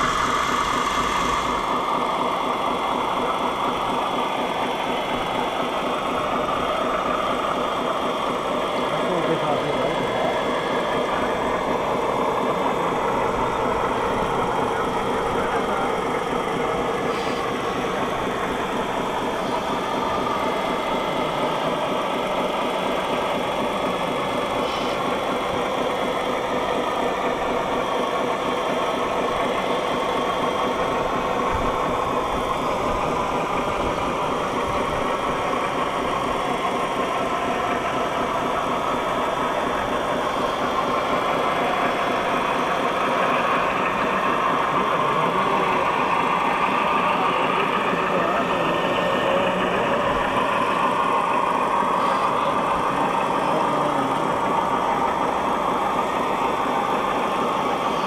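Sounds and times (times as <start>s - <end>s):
rc truck motors running: 0.0s - 58.0s.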